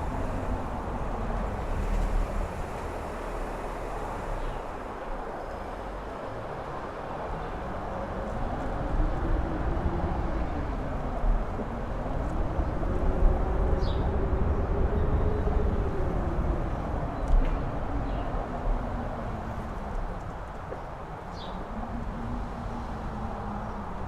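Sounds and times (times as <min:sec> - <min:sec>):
faint wind howling: 0:00.0 - 0:24.0
strong wind rumbling on microphone: 0:00.0 - 0:24.0.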